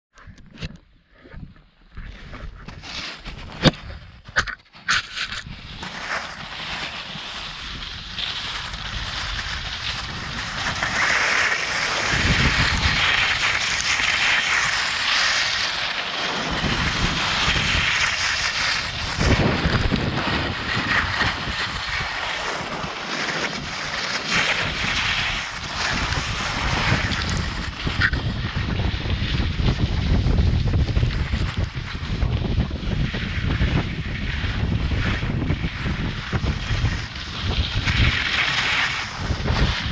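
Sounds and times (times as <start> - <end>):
skis scraping over snow: 1.2 - 39.9
wind buffeting microphone: 7.4 - 39.9.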